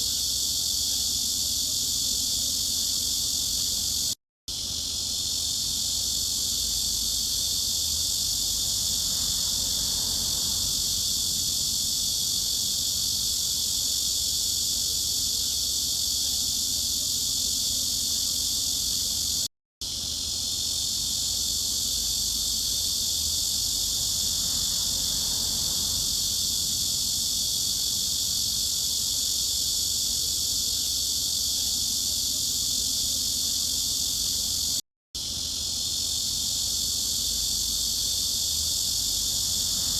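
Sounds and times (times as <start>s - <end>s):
cicada chorus drone: 0.0s - 39.9s.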